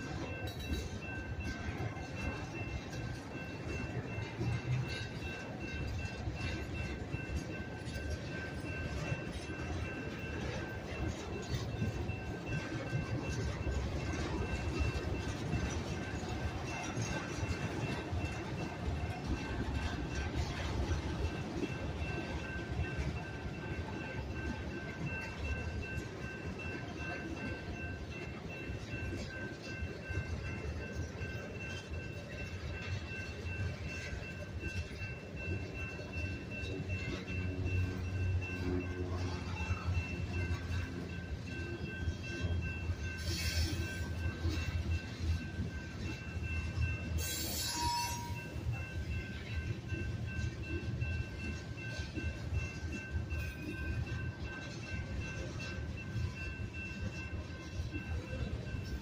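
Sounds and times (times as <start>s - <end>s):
crossing warning bell ringing: 0.0s - 59.0s
freight train rumbling: 0.0s - 59.0s
train wheel clicks: 0.0s - 59.0s.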